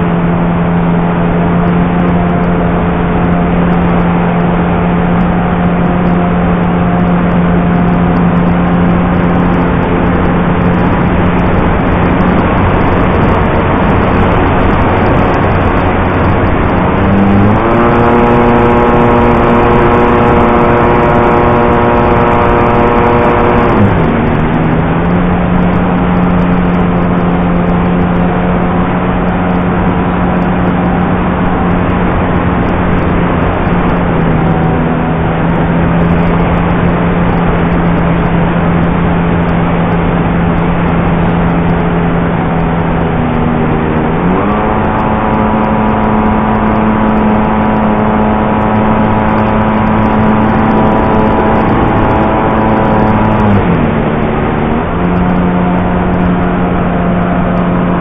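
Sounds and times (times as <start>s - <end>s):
two-stroke model plane engine: 0.0s - 41.0s, 41.7s - 58.0s
rush of air: 0.0s - 58.0s.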